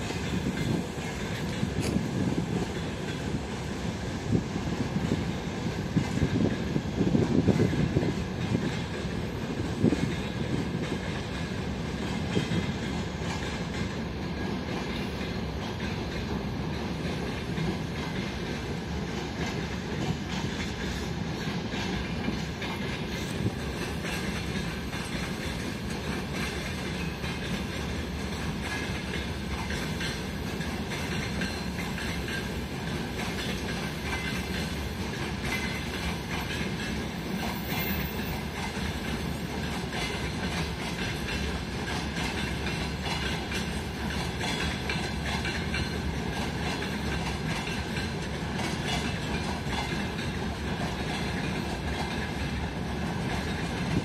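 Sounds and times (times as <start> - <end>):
train wheels clacking over rails: 0.0 - 54.0.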